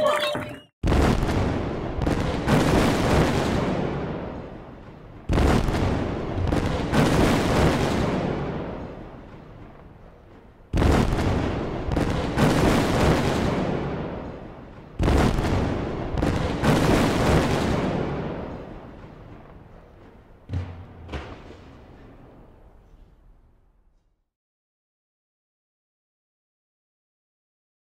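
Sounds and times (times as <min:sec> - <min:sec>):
fireworks booming: 0:00.8 - 0:23.4.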